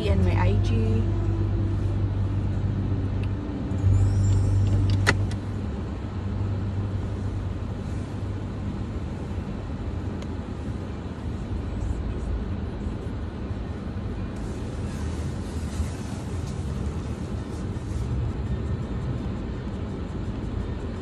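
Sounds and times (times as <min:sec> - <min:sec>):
car interior engine hum: 0:00.0 - 0:21.0.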